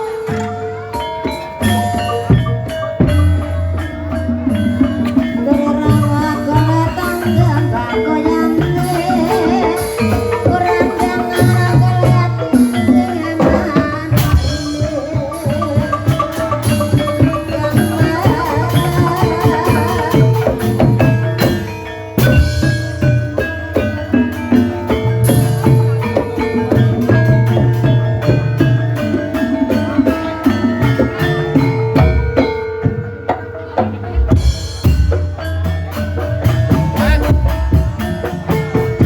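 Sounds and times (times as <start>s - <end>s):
drums in steady rhythm: 0.0s - 39.0s
wavering melody line: 0.0s - 39.0s.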